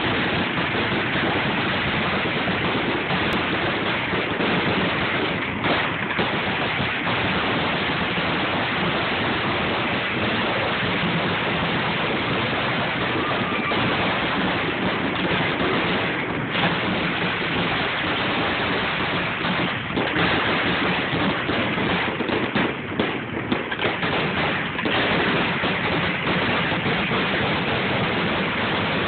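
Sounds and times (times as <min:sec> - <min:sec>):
fireworks bursts and crackles: 0:00.0 - 0:29.0.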